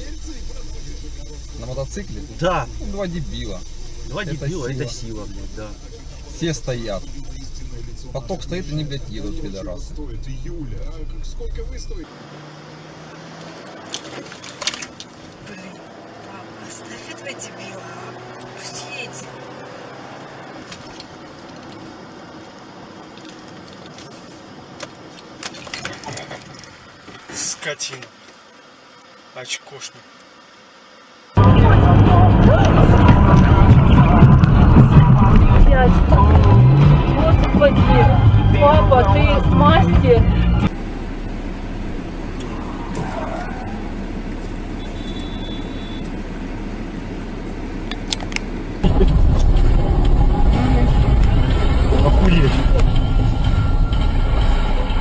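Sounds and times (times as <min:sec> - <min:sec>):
car cabin road noise: 0:00.0 - 0:55.0.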